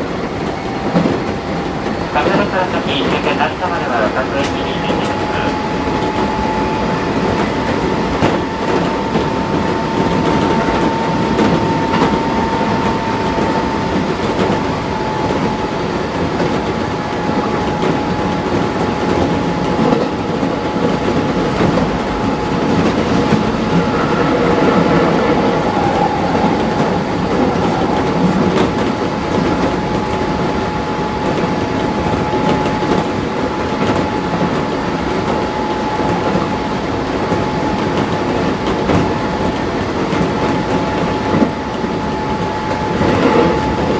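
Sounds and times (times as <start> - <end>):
train interior rumble: 0.0 - 43.9
wheels clacking over rail joints: 0.0 - 43.9.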